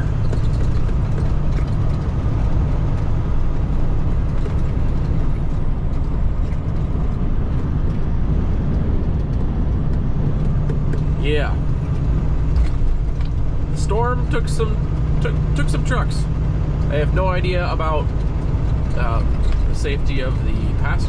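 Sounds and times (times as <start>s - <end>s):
road noise: 0.0s - 21.0s
truck diesel engine drone: 0.0s - 21.0s.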